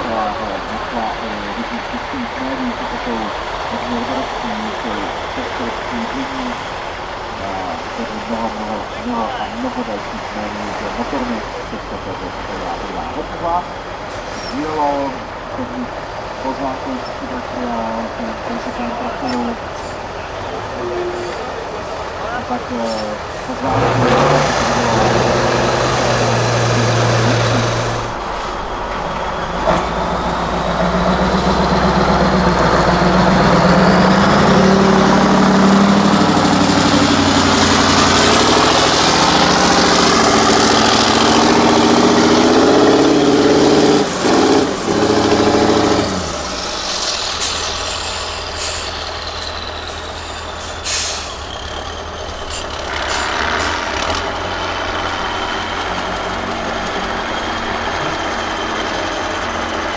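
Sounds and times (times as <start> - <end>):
truck diesel engine under load: 0.0 - 59.9.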